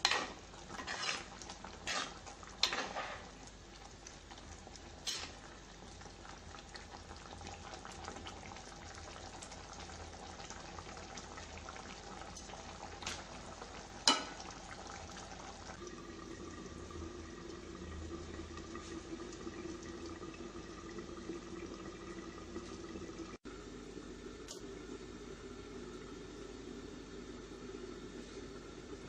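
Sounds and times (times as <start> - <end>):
curry bubbling in a pot: 0.0 - 23.4.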